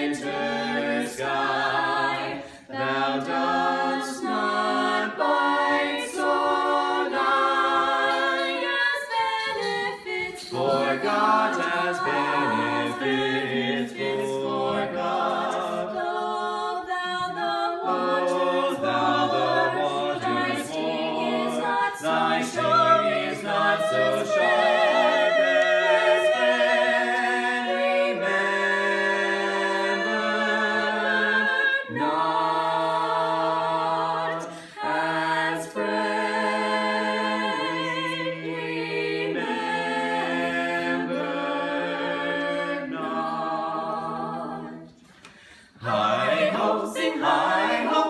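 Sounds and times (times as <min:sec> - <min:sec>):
a cappella choir singing: 0:00.0 - 0:48.0.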